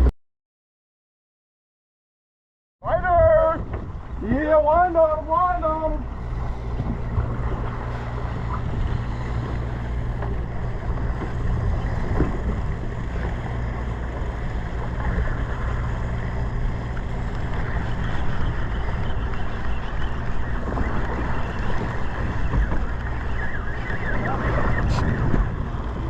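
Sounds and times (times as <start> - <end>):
boat engine running: 2.8 - 26.0
wind on microphone: 2.8 - 26.0.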